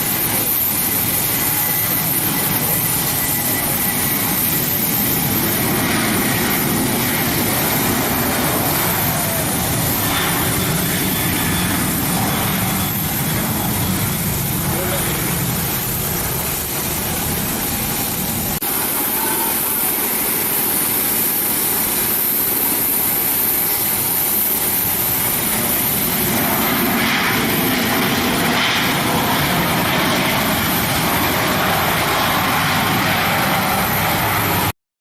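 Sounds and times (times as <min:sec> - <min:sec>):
jet engines running: 0:00.0 - 0:34.8.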